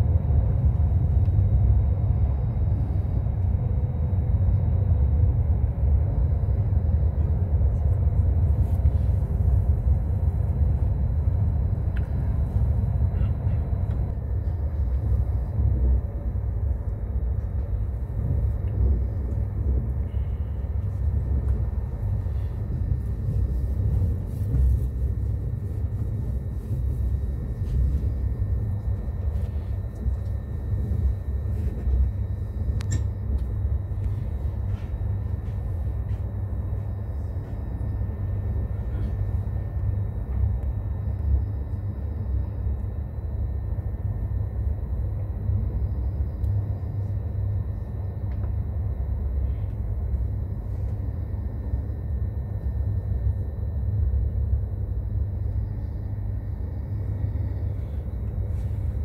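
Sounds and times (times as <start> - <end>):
train rumble from inside: 0.0 - 59.0.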